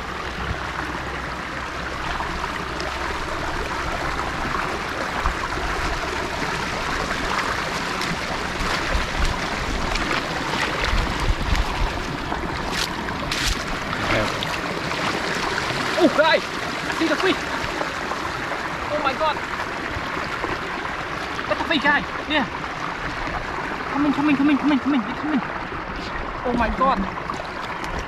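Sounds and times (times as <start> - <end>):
water rushing over waterfall: 0.0 - 28.0.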